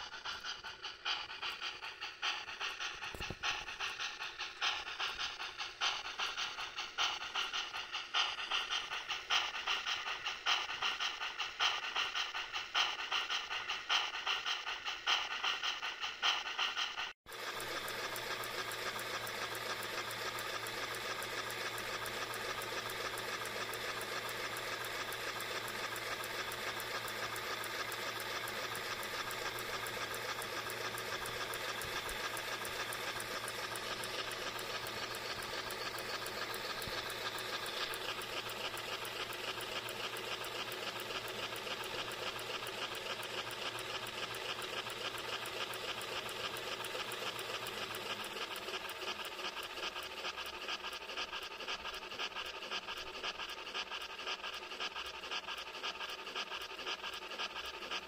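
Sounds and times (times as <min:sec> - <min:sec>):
model locomotive steam chuffs: 0:00.0 - 0:58.0.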